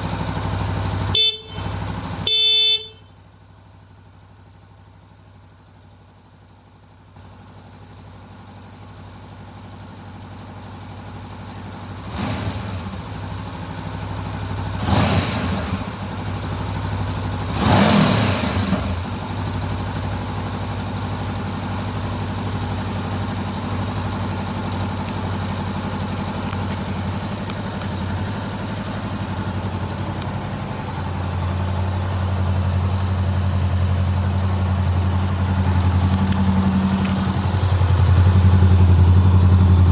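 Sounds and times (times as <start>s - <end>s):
motorcycle engine idling: 0.0s - 12.1s, 12.8s - 14.9s, 15.8s - 17.6s, 18.9s - 39.9s.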